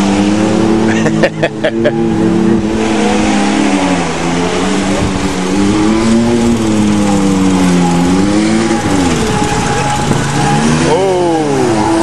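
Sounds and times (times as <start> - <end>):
engine revving under load: 0.0 - 12.0.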